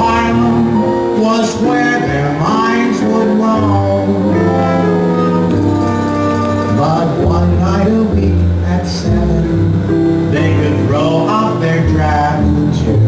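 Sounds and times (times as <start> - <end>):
person singing with accompaniment: 0.0 - 13.0.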